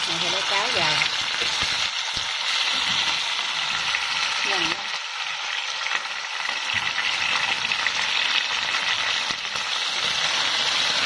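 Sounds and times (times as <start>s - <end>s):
fish sizzling in sauce: 0.0s - 11.0s.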